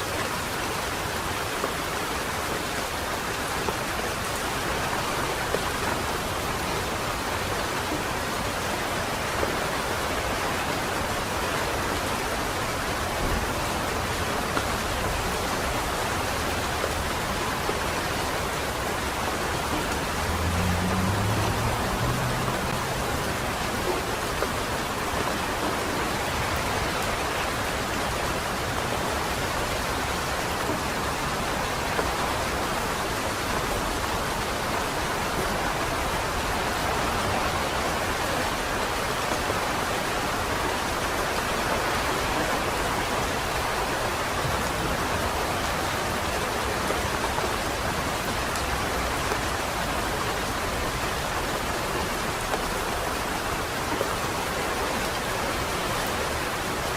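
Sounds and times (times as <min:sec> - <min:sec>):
light rain hiss: 0:00.0 - 0:56.9.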